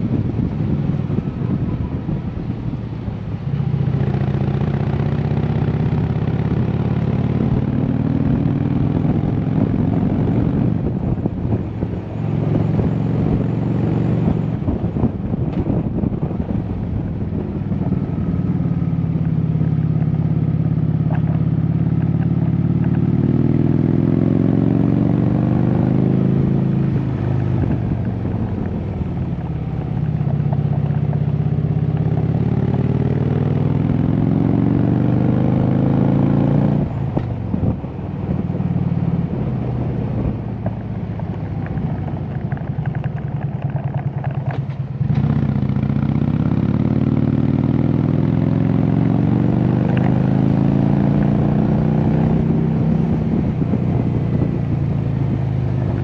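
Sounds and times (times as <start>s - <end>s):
motorcycle engine revving: 3.3s - 56.0s.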